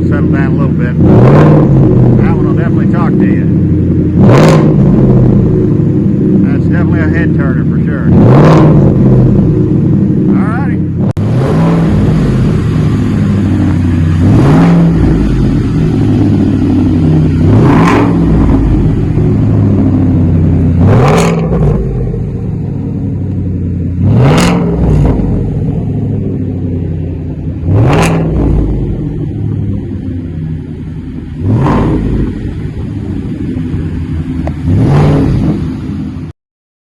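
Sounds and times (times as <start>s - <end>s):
car engine idling and revving: 0.0s - 36.3s.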